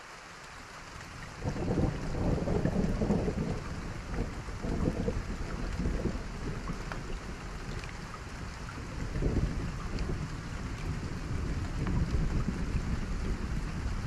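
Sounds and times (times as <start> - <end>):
heavy rain hiss: 0.0 - 14.0.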